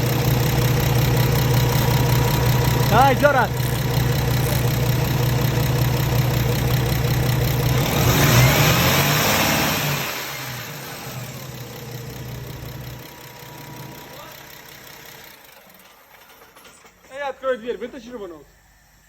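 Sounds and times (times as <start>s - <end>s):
diesel truck engine idling: 0.0s - 15.7s.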